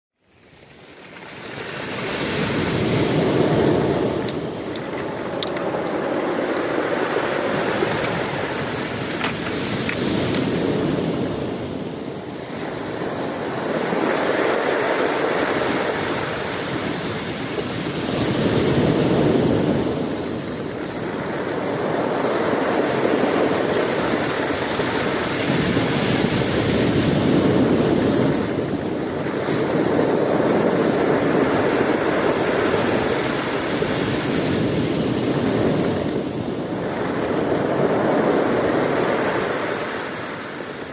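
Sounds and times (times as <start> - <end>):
sea waves breaking on shore: 0.3 - 40.9.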